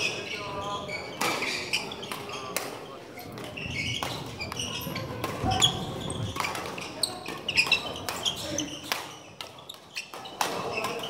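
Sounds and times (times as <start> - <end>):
shoes squeaking on wooden floor: 0.0 - 2.6, 3.2 - 11.0
rackets hitting shuttlecock: 1.2 - 11.0.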